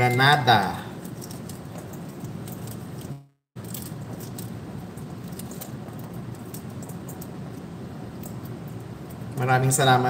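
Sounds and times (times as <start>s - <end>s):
pomegranate peel crackling: 0.5s - 9.7s.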